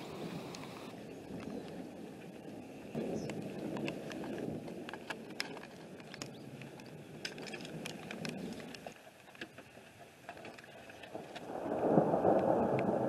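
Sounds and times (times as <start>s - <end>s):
raindrops ticking: 0.0s - 1.8s, 2.9s - 13.0s
rain rushing: 0.0s - 13.0s.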